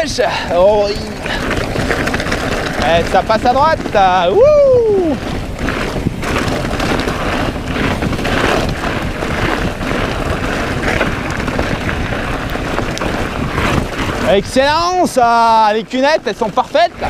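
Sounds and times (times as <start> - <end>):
bike rattling over bumps: 0.0 - 17.0
bike tyres rolling over dirt: 0.0 - 17.0
wind on microphone: 0.0 - 17.0.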